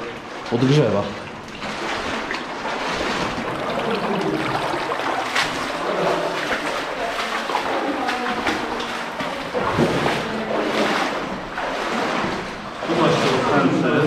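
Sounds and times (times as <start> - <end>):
small water splashes: 0.0 - 14.0
river water rushing: 1.3 - 14.0.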